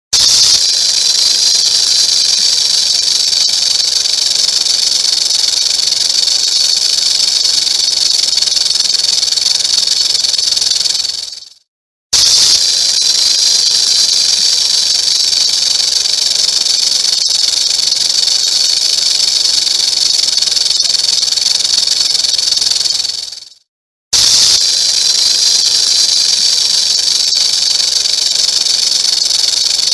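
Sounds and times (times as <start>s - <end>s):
rattlesnake tail rattle buzzing: 0.2s - 11.6s, 12.2s - 23.6s, 24.2s - 29.9s.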